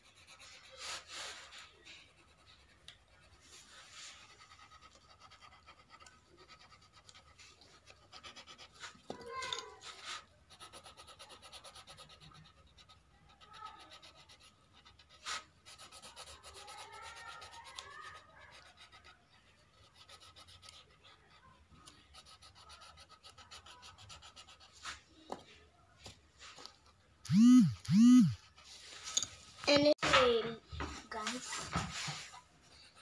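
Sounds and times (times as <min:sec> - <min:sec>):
pencil scratching on paper: 0:00.0 - 0:25.1, 0:31.4 - 0:33.0.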